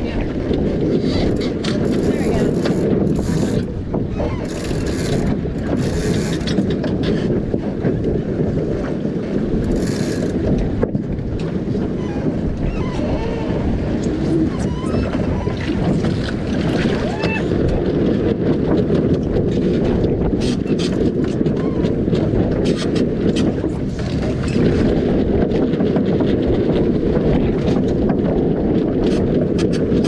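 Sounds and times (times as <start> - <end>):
water rushing along hull: 0.0 - 30.0
wind buffeting microphone: 0.0 - 30.0.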